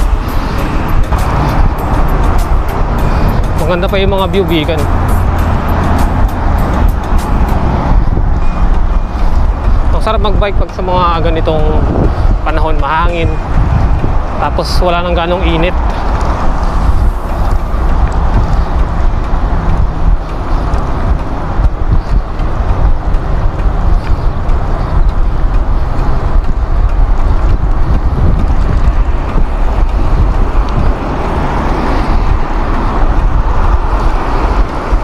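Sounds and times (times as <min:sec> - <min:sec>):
road traffic: 0:00.0 - 0:35.0
wind buffeting microphone: 0:00.0 - 0:35.0.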